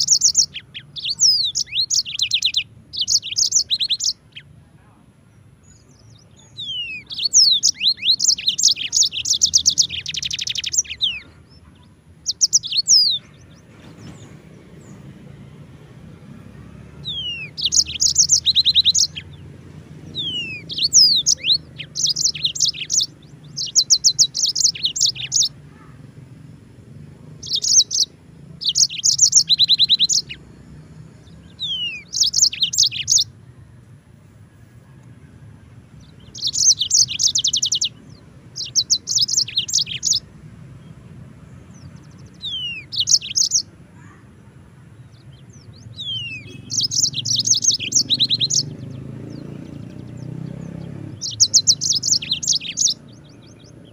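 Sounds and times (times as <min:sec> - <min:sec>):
canary singing: 0:00.0 - 0:04.6, 0:05.4 - 0:53.9.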